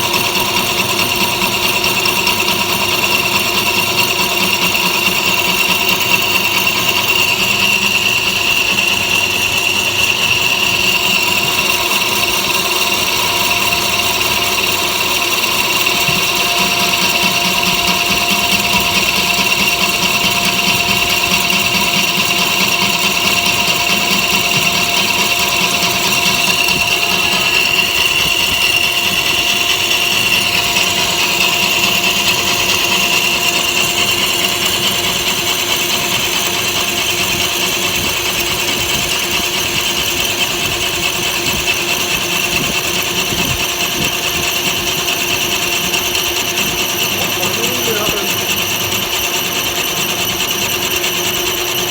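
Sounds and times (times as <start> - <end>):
metal lathe whining: 0.0 - 51.9.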